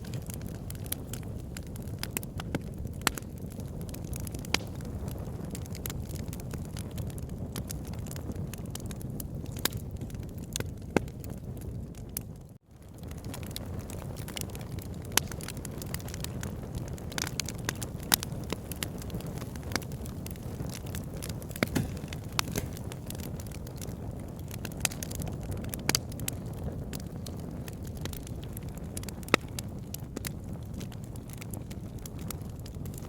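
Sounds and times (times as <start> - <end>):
burning logs crackling and popping: 0.0 - 33.0
fire flame rushing: 0.0 - 33.0.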